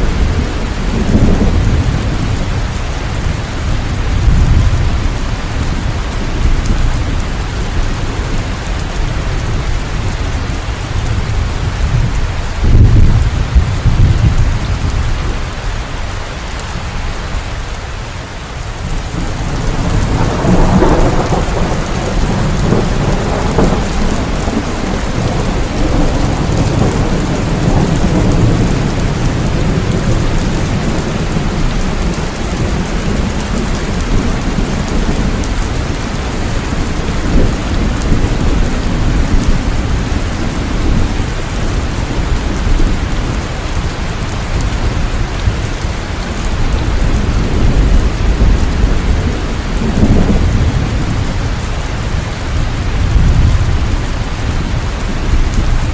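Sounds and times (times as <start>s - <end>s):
rolling thunder: 0.0s - 15.6s, 18.8s - 55.9s
heavy rain falling: 0.0s - 55.9s.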